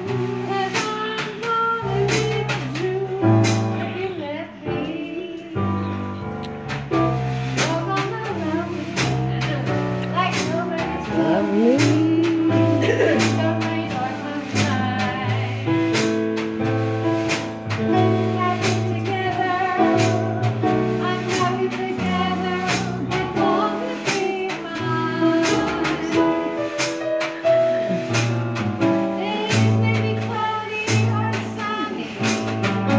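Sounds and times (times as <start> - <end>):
snare drum and cymbal beat: 0.0 - 3.9, 6.7 - 32.9
woman singing: 0.0 - 5.9, 7.6 - 16.2, 18.0 - 27.8, 29.0 - 32.7
electric keyboard chords and bass: 0.0 - 32.9.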